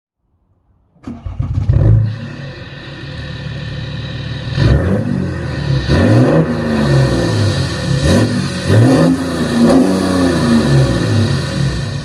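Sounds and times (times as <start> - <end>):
diesel engine starting and idling: 0.9 - 12.0
engine rev: 1.0 - 12.0.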